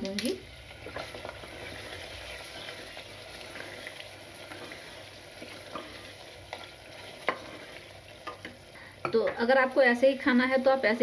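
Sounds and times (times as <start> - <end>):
curry sizzling in a pot: 0.0 - 11.0.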